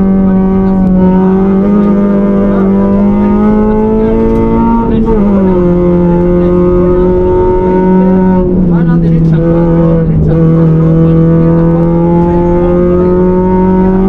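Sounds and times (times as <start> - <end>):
car engine revving high: 0.0 - 14.0.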